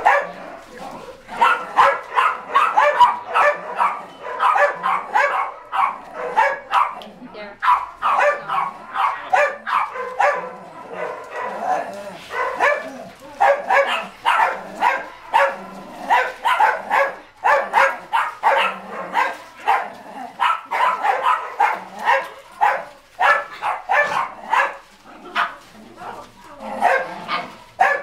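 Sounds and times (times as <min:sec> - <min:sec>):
dogs barking: 0:00.0 - 0:28.0.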